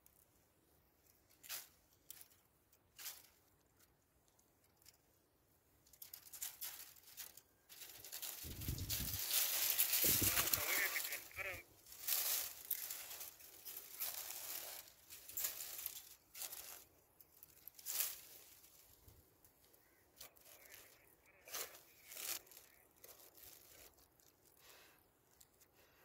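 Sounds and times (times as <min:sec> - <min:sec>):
twigs crackling under boots: 0:00.0 - 0:26.0.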